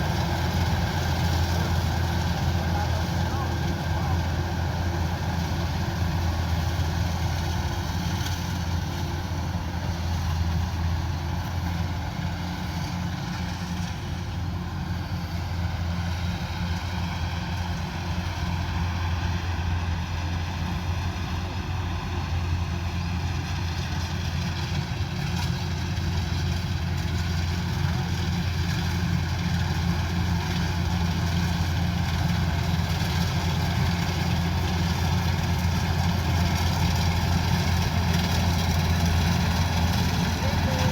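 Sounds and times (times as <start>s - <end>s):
diesel engine humming steadily: 0.0s - 40.9s.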